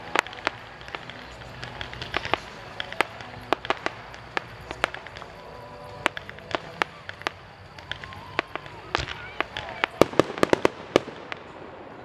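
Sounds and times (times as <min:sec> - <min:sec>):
fireworks popping and banging: 0:00.0 - 0:12.0
steady background hiss: 0:00.0 - 0:12.0.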